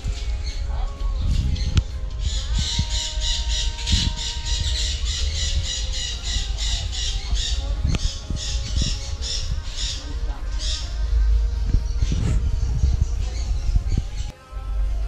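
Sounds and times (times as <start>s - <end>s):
parakeets squawking: 0.0s - 14.3s.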